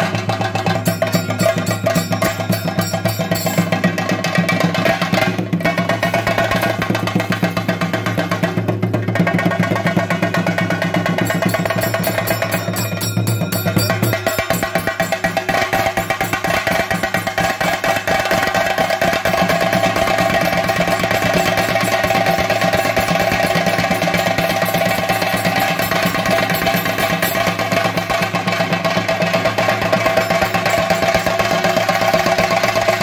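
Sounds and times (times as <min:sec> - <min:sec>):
drums beaten in fast roll: 0:00.0 - 0:33.0.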